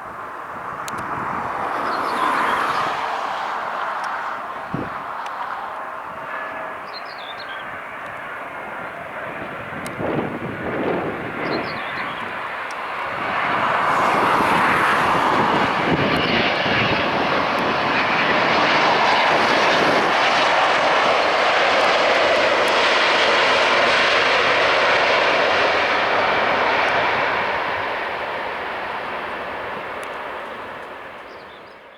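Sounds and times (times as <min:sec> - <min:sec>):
jet airliner engines passing: 0:00.0 - 0:31.9.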